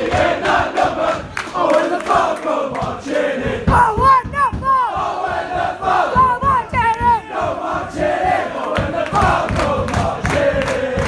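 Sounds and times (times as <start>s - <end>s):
crowd chanting: 0.0s - 11.0s.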